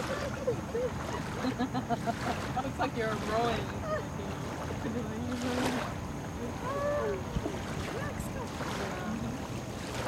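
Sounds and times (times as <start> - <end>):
small waves lapping: 0.0 - 10.0.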